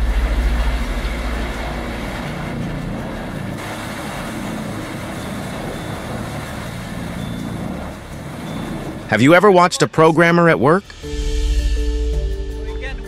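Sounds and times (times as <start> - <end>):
diesel machinery running: 0.0 - 13.0.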